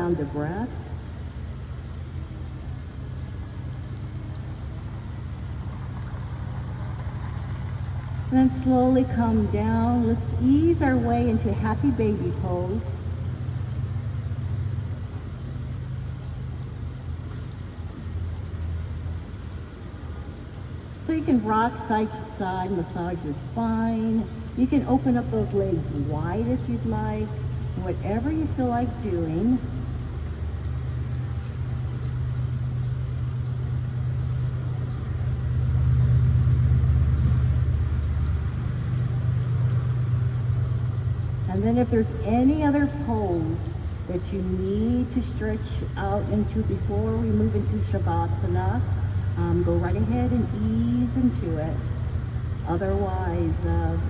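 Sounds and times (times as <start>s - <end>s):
low background rumble: 0.0s - 54.0s.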